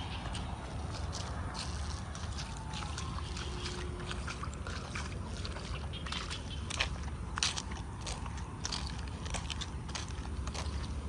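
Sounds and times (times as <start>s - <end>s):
footsteps on wet concrete: 0.0s - 11.0s.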